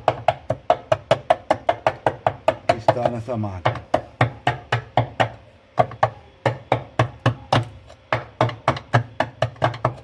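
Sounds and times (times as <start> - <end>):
sharp knocks on washing machine: 0.0 - 10.0.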